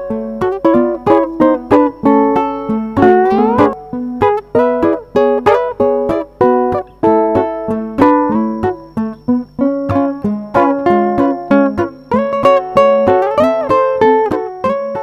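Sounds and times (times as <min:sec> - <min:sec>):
upbeat plucked-string tune: 0:00.0 - 0:15.0.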